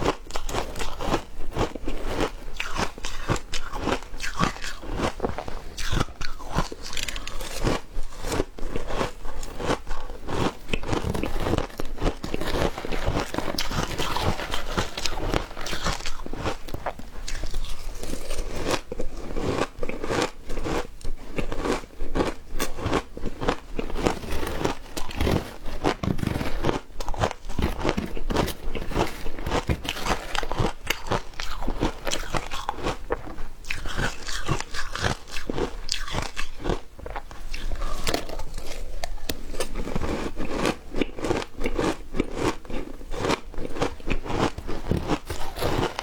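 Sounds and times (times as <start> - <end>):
person chewing crunchy ice: 0.0 - 46.0.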